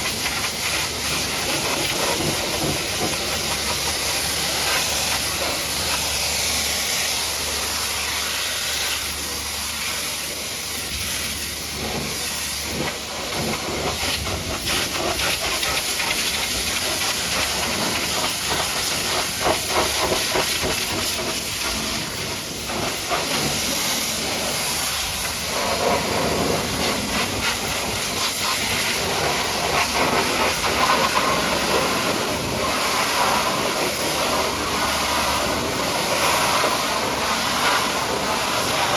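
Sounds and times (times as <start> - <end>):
pressure washer spraying water: 0.0 - 38.9.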